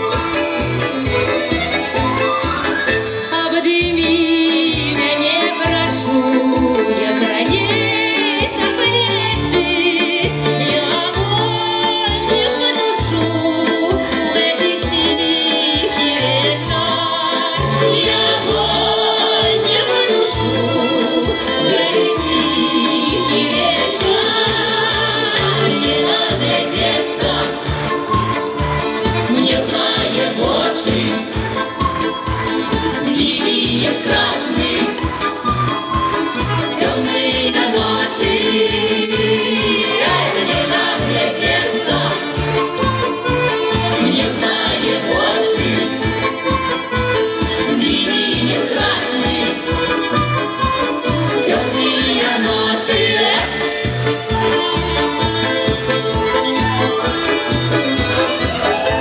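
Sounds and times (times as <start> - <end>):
folk music ensemble playing: 0.0 - 59.0.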